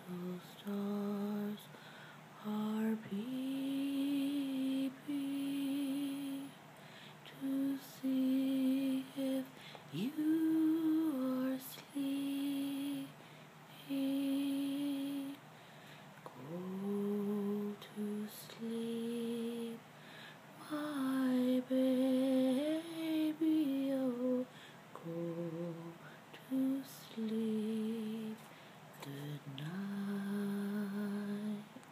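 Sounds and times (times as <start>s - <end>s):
person humming a lullaby: 0.0s - 1.8s, 2.4s - 6.6s, 7.3s - 15.4s, 16.3s - 19.8s, 20.6s - 28.4s, 29.0s - 31.9s.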